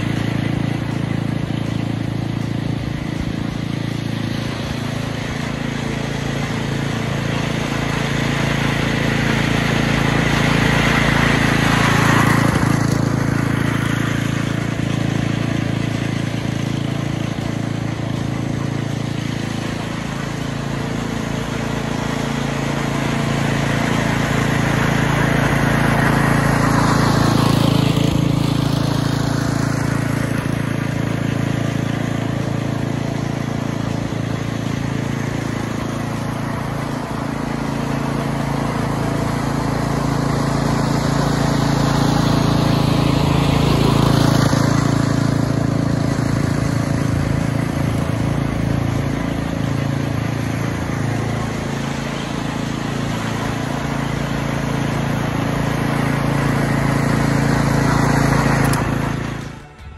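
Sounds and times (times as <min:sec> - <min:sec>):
reel mower running: 0:00.0 - 0:59.9.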